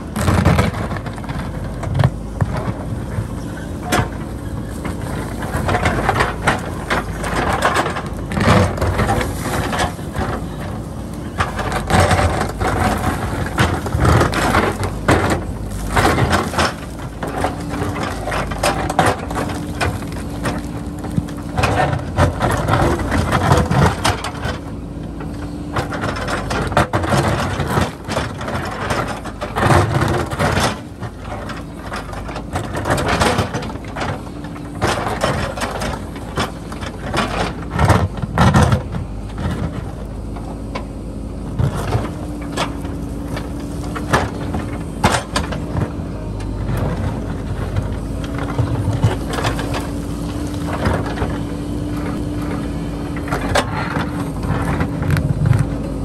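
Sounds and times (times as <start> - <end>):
diesel engine working: 0.0 - 56.0.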